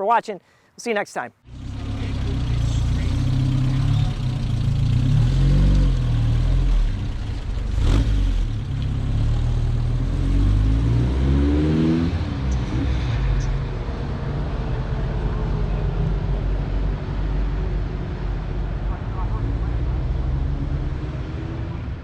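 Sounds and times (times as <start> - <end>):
car engine accelerating: 1.5 - 22.0.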